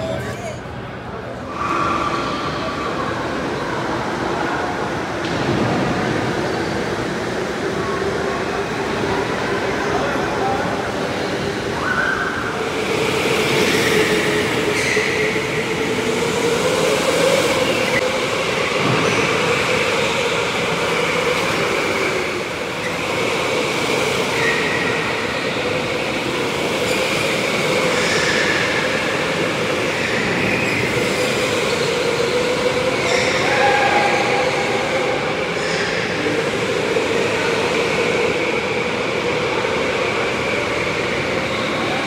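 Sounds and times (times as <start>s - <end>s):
electric go-kart motors whining: 4.8s - 42.0s.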